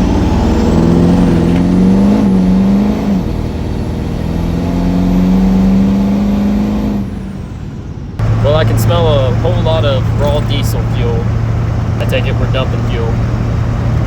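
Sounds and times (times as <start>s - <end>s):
diesel pickup engine running: 0.0s - 14.0s.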